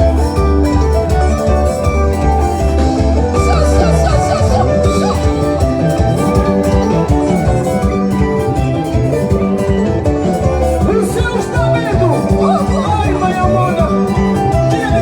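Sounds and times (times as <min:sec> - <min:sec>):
melodic instrument lines: 0:00.0 - 0:15.0
steady drum beat: 0:00.0 - 0:15.0.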